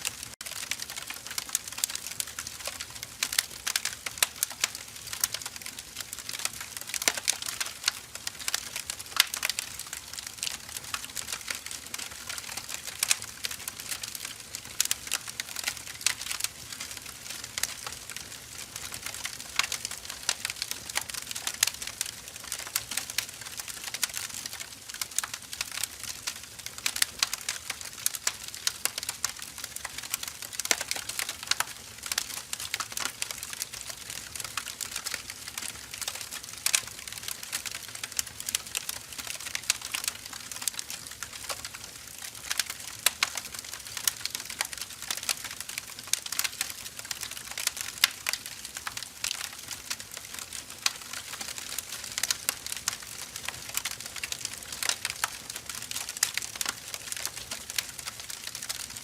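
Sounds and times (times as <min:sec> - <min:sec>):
firewood burning and crackling: 0:00.0 - 0:59.0.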